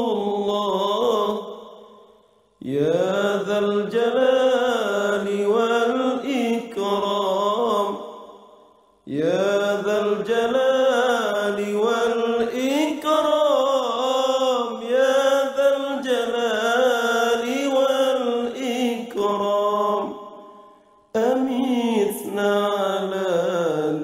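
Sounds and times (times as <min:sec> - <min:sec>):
solo voice chanting: 0:00.0 - 0:02.0, 0:02.6 - 0:24.0.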